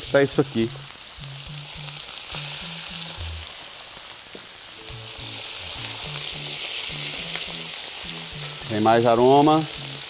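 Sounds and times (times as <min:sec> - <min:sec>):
meat sizzling in oil: 0:00.0 - 0:10.0
background music with bass: 0:00.6 - 0:03.6, 0:04.8 - 0:10.0.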